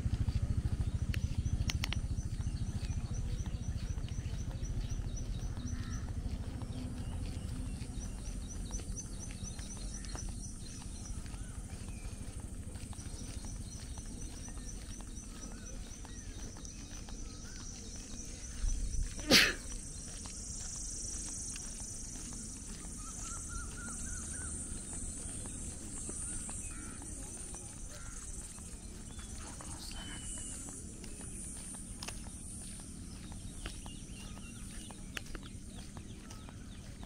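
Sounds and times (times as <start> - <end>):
birds chirping: 0.0 - 37.0
faint footsteps: 0.0 - 37.0
low steady rumble: 0.0 - 37.0.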